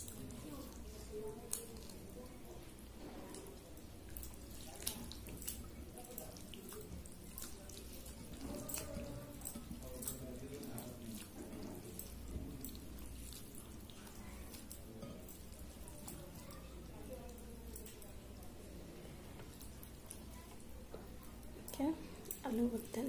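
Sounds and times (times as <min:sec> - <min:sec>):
wet squelching and sloshing: 0:00.0 - 0:23.0.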